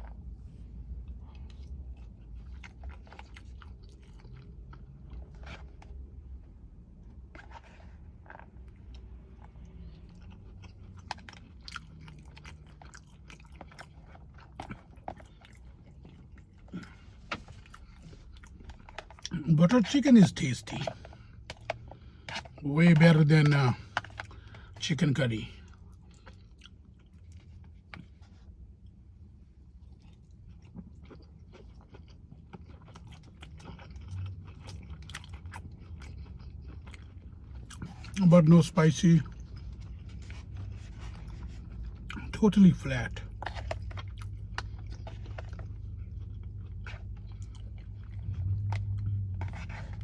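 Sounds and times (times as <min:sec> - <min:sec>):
person chewing with wet smacks: 0:00.0 - 0:50.0.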